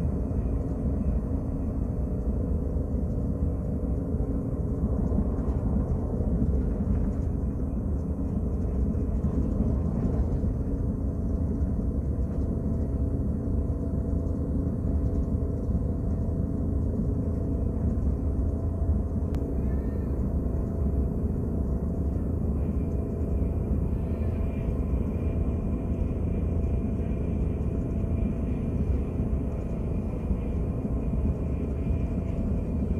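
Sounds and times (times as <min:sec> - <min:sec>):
high-speed train rumble: 0:00.0 - 0:32.9.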